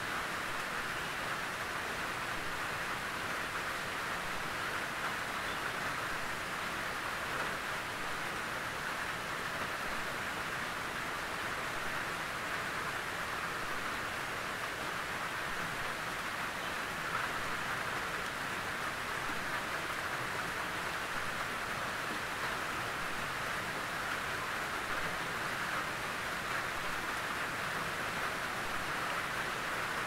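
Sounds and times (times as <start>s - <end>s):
rain on a tin roof: 0.0s - 30.0s.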